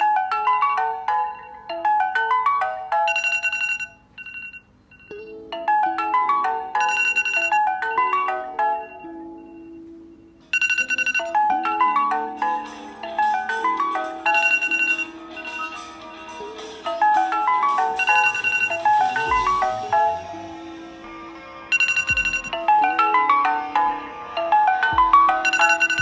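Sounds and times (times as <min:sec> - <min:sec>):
chiming ringtone melody: 0:00.0 - 0:26.0.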